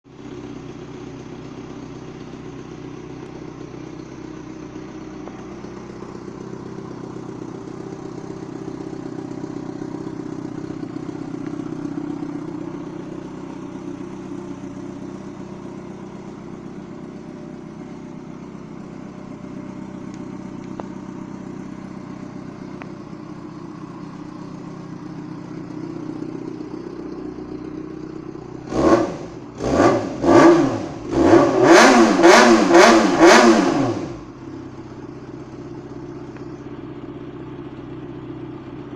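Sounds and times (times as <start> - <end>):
motorcycle engine idling: 0.1 - 38.9.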